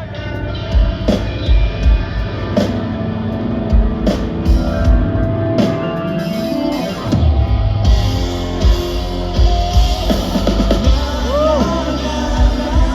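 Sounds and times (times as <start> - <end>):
rock band playing: 0.0 - 12.9.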